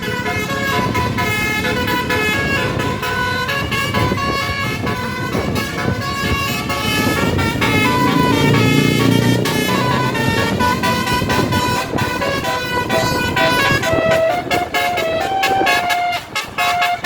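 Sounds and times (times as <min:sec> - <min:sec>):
electric horns playing a tune: 0:00.0 - 0:17.0
motor vehicle running: 0:00.0 - 0:17.0.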